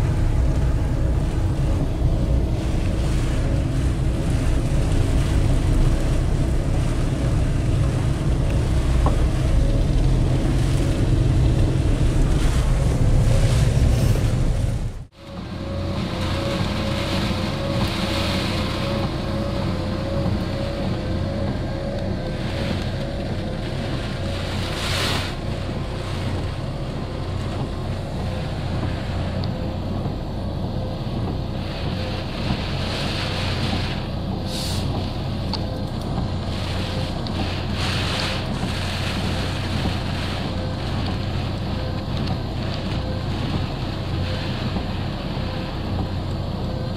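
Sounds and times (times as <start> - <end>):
car engine running: 0.0 - 46.9
tyres splashing through water: 0.0 - 46.9.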